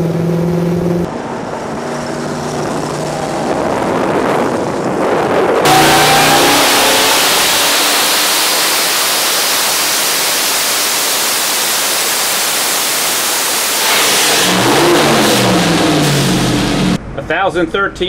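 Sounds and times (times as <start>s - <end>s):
engine roaring at full throttle: 0.0s - 17.1s.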